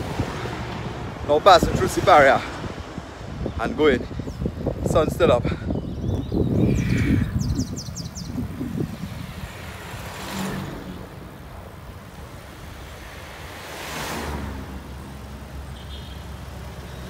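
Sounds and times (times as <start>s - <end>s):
wind rumbling on microphone: 0.0s - 15.2s
road vehicles passing by: 0.0s - 17.0s.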